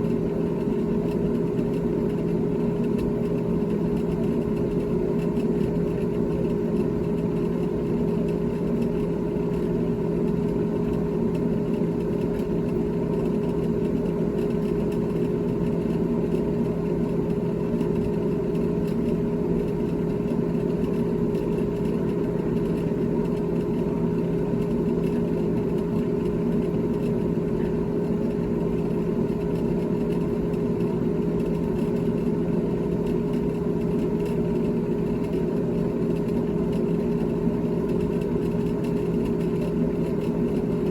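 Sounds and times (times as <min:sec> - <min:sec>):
refrigerator humming: 0:00.0 - 0:40.9.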